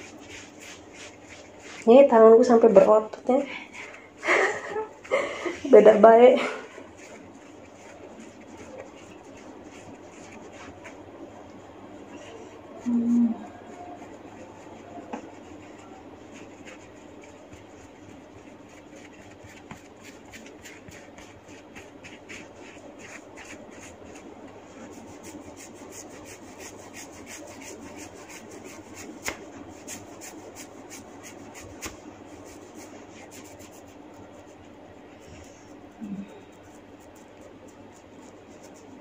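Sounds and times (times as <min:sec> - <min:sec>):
hair rubbing against scalp: 0:00.0 - 0:39.0.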